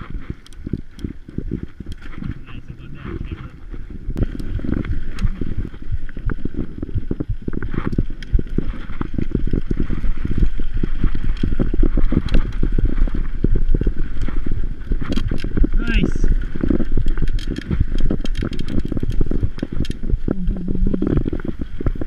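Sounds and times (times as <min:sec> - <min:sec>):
bike knocking and rattling: 0:00.0 - 0:20.3
wind rumble on microphone: 0:00.0 - 0:22.0.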